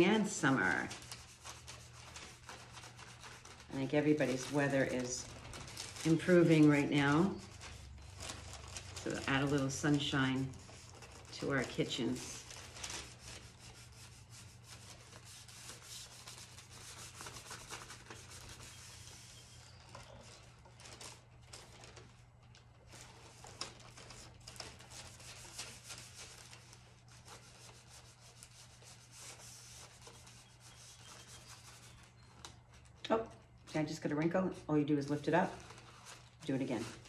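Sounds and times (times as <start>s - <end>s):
paper crinkling: 0.0s - 37.0s.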